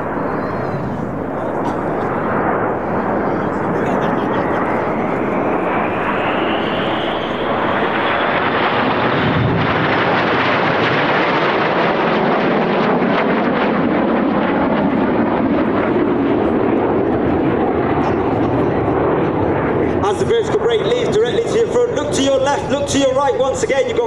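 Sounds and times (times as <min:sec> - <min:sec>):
high jet whine: 0:00.0 - 0:24.0
jet engines roaring: 0:00.0 - 0:24.0.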